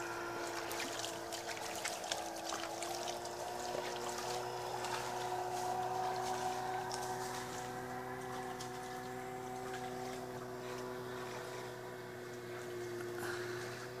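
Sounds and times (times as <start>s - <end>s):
engine hum: 0.0s - 14.0s
light water splashes: 0.0s - 14.0s.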